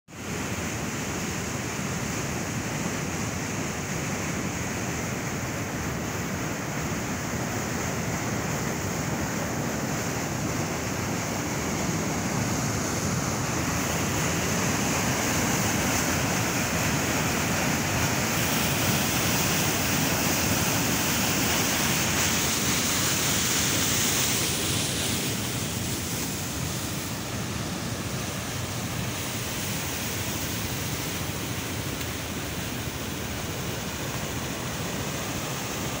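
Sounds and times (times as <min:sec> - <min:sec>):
stream rushing over rocks: 0:00.1 - 0:36.0.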